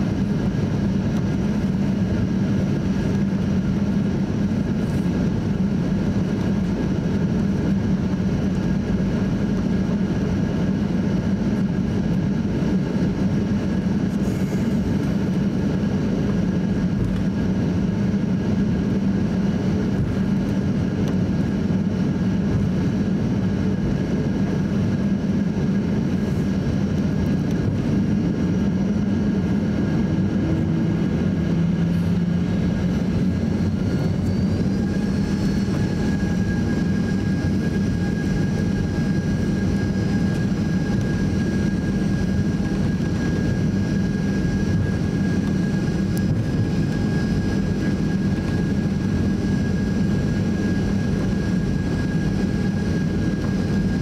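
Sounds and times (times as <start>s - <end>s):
jet engine cabin hum: 0.0s - 54.0s.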